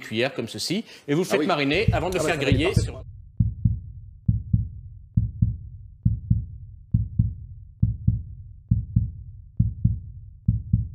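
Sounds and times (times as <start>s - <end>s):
heartbeat thumps: 1.7s - 10.9s.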